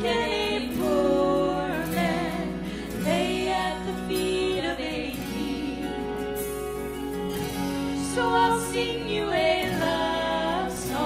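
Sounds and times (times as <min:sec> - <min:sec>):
worship music accompaniment: 0:00.0 - 0:11.0.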